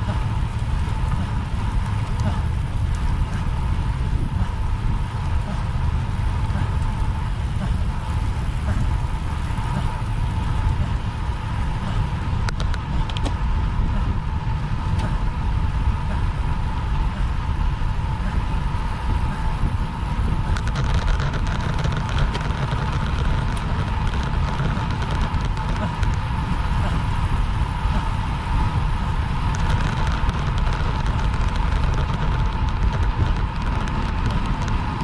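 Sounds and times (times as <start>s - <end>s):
faint steady whine: 0.0s - 35.0s
wind rushing over microphone: 0.0s - 35.0s.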